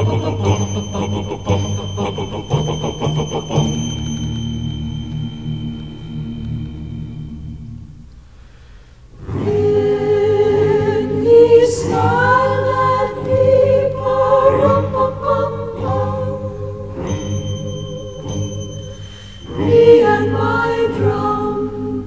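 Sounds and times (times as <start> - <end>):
choir singing: 0.0 - 7.9, 9.2 - 22.0
sustained accompaniment: 0.0 - 8.5, 9.4 - 22.0.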